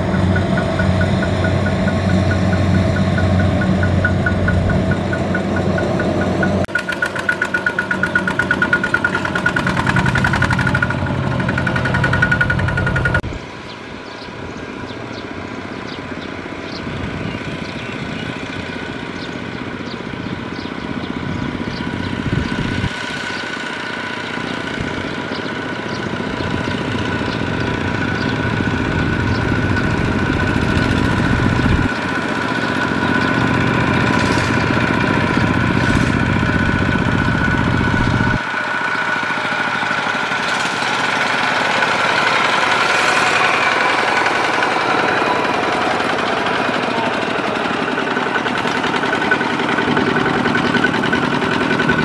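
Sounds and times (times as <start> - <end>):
diesel tractor engine running: 0.0 - 52.0.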